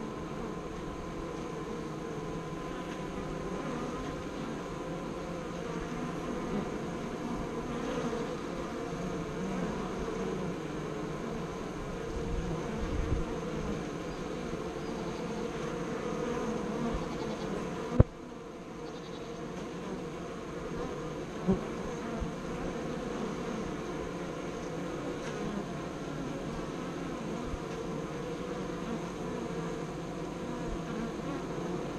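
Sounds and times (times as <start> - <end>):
honeybees buzzing: 0.0 - 31.9.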